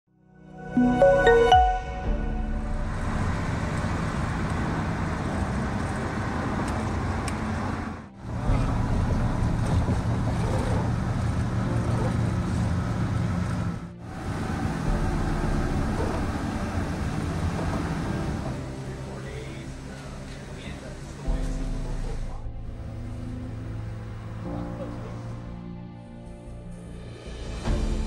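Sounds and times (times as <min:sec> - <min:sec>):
road noise inside moving vehicle: 0:02.4 - 0:25.9.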